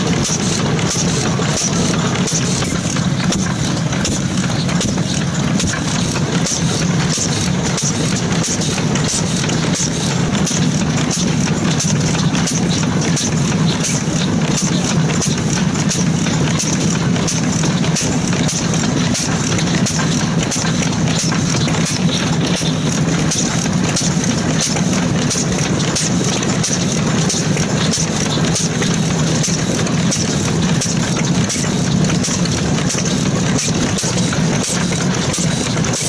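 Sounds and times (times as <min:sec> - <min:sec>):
stationary engine chugging: 0:00.0 - 0:36.0.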